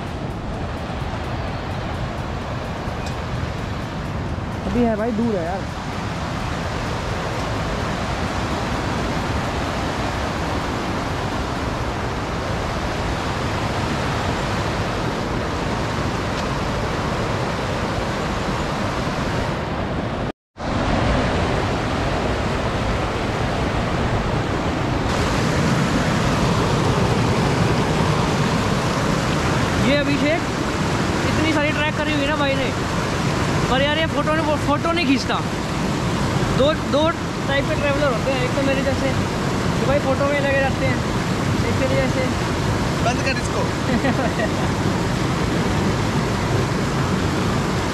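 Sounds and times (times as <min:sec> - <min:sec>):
steady rushing noise: 0:00.0 - 0:47.9.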